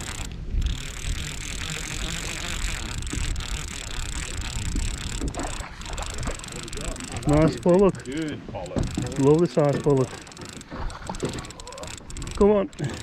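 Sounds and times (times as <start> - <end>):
boat noise: 0.0 - 13.0
fishing reel winding: 0.0 - 13.0.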